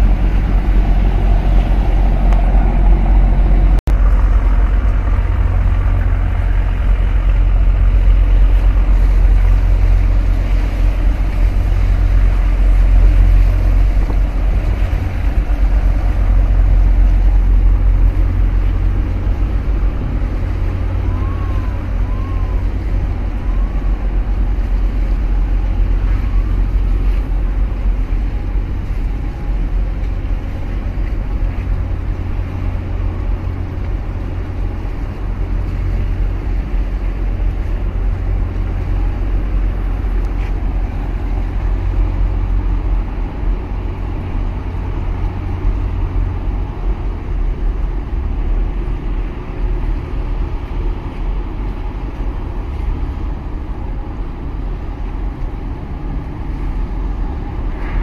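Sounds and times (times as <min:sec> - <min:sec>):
ship low rumble: 0:00.0 - 0:58.0
tug engine: 0:00.0 - 0:58.0.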